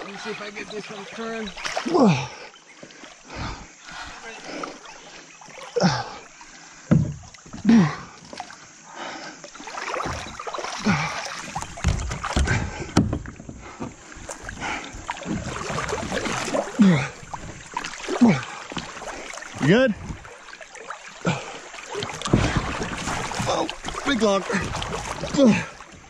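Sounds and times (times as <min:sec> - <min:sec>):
paddle strokes splashing: 0:00.0 - 0:26.0
river water moving around kayak: 0:00.0 - 0:26.0.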